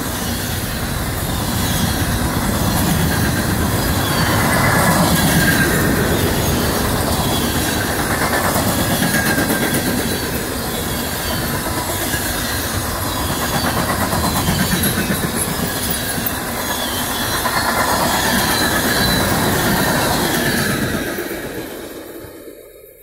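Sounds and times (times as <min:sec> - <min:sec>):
freight train wheels clattering on rails: 0:00.0 - 0:22.8.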